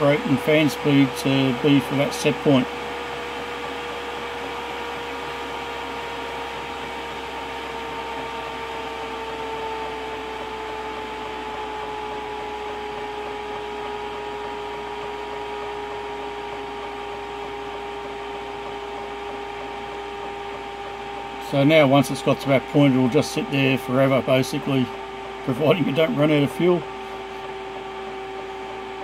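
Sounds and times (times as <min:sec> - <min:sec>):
heater blower fan whine: 0:00.0 - 0:29.0.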